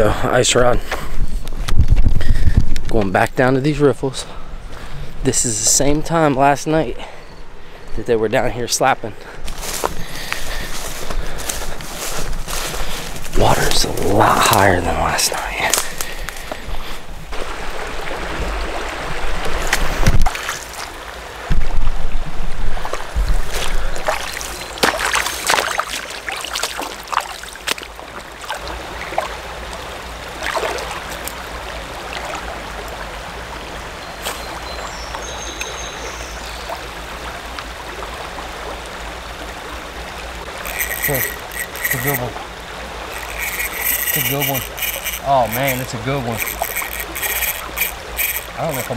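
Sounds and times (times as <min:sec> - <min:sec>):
creek water rushing: 0:08.7 - 0:48.9.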